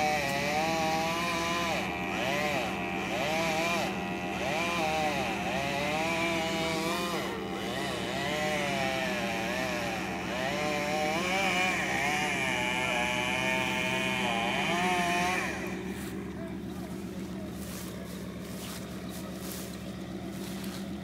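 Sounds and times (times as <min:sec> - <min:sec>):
chainsaw cutting into tree: 0:00.0 - 0:21.0.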